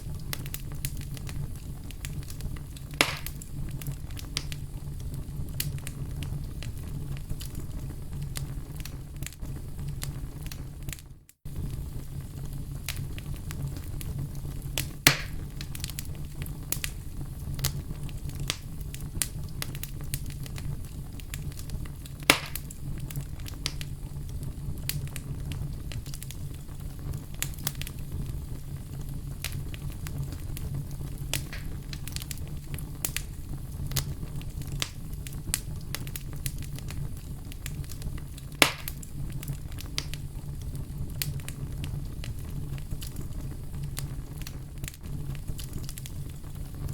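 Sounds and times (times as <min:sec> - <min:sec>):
loud fire pops: 0:00.0 - 0:46.9
wood fire crackling: 0:00.0 - 0:46.9.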